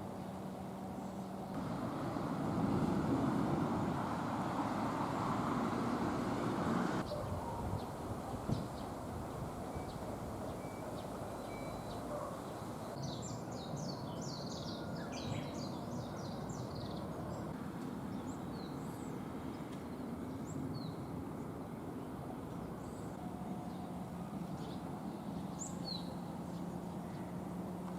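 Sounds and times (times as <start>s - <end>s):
distant traffic rumble: 0.0s - 27.9s
wild birds chirping: 3.2s - 27.8s.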